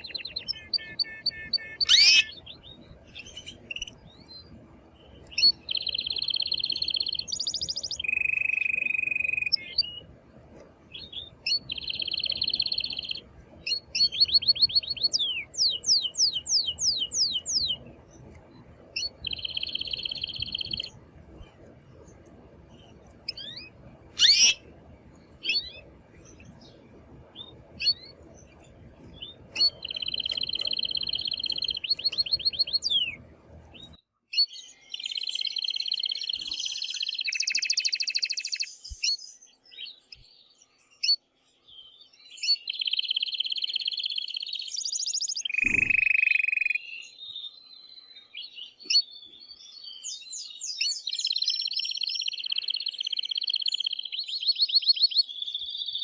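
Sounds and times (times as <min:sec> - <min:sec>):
canary chirps: 0:00.0 - 0:10.1, 0:10.8 - 0:21.5, 0:22.2 - 0:24.7, 0:25.3 - 0:40.3, 0:42.4 - 0:56.0
canary singing rolling trills: 0:00.0 - 0:56.0.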